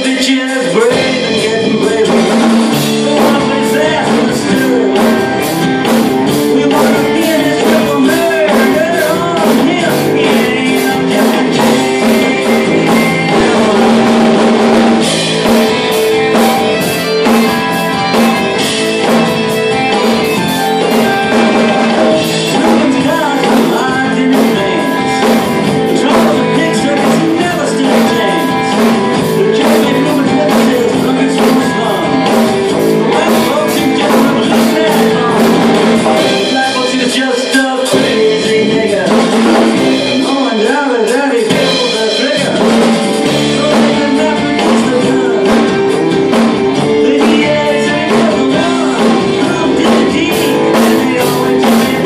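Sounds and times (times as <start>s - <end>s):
drum kit playing steady beat: 0.0s - 52.0s
rock song with singing and guitar: 0.0s - 52.0s.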